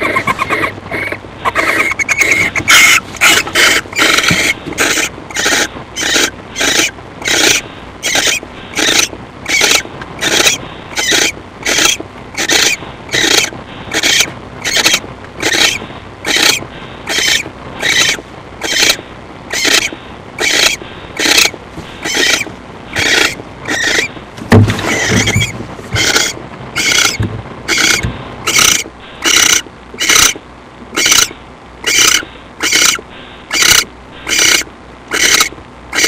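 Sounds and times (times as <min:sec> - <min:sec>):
owl hissing snore calls: 0:00.0 - 0:24.2, 0:24.9 - 0:30.4, 0:31.0 - 0:36.0.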